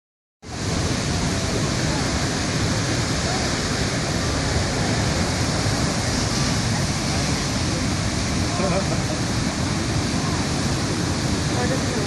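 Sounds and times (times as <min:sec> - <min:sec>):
heavy surf breaking: 0:00.4 - 0:12.0.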